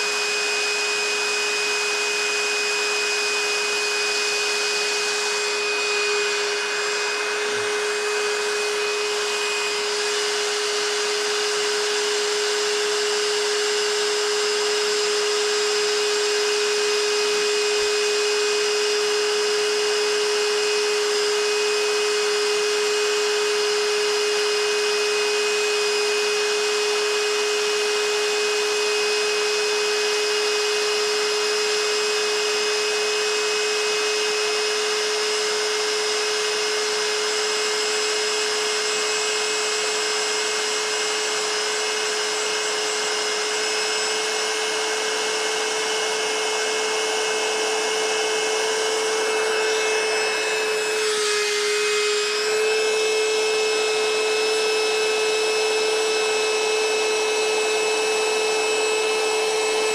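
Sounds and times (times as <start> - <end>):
small motor whining: 0.0 - 59.9.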